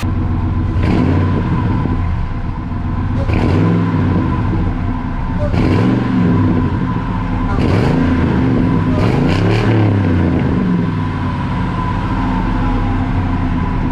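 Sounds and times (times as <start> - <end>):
engine running: 0.0 - 13.9.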